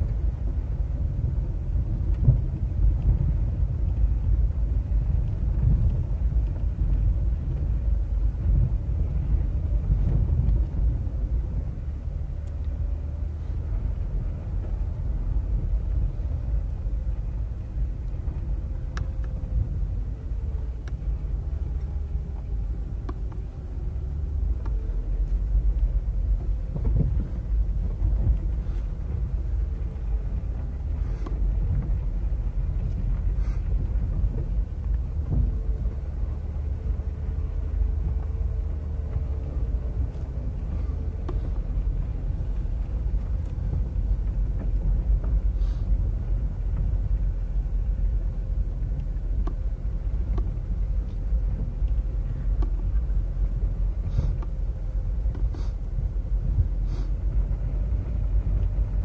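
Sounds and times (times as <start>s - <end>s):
car tyres and engine rumbling: 0.0s - 59.0s.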